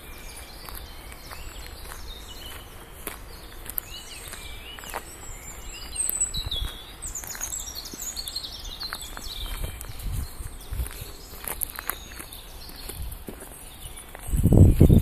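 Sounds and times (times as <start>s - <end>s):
footsteps on gravel: 0.0s - 15.0s
small birds chirping: 0.0s - 15.0s.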